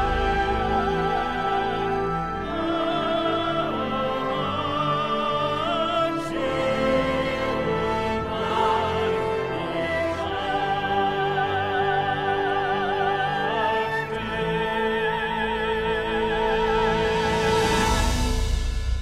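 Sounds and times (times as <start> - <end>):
soprano singing with vibrato: 0.0 - 17.8
orchestral accompaniment: 0.0 - 19.0.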